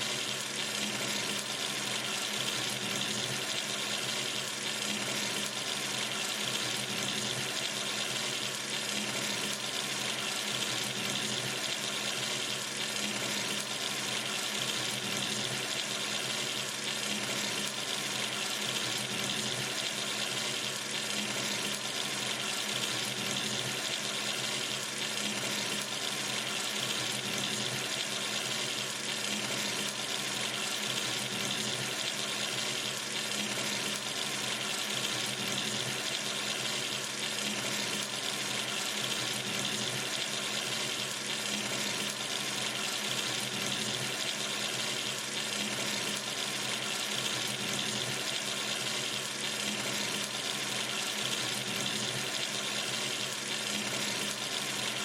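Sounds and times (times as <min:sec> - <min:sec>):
tap water running into sink: 0:00.1 - 0:55.0.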